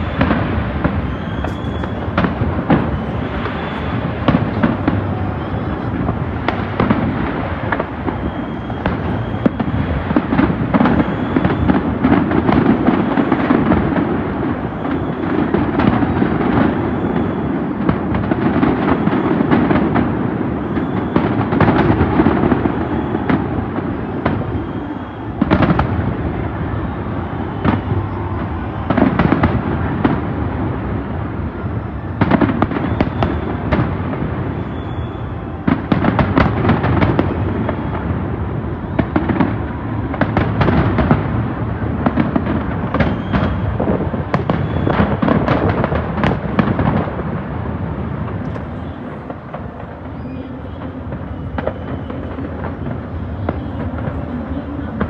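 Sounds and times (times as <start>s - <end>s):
continuous rumble: 0.0s - 55.0s
fireworks bangs and crackles: 0.0s - 55.0s.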